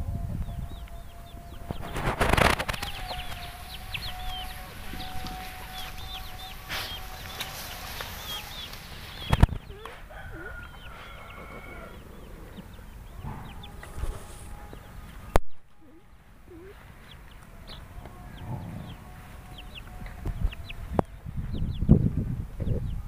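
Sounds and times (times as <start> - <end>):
chicks peeping: 0.1 - 23.0
chickens clucking: 0.7 - 21.9.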